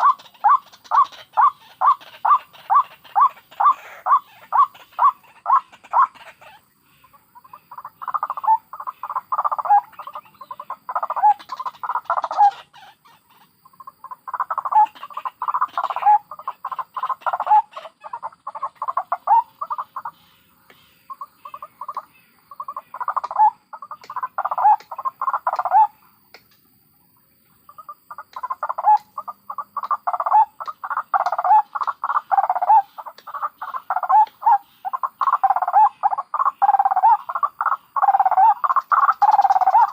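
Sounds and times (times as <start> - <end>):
waterhens calling: 0.0 - 26.0, 27.6 - 39.9.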